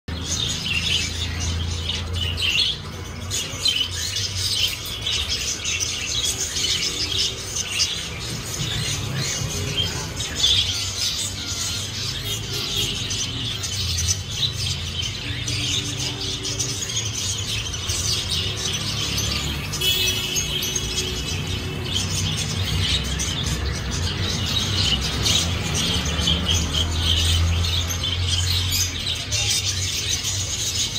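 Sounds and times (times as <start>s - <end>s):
finches chattering: 0.1s - 30.9s.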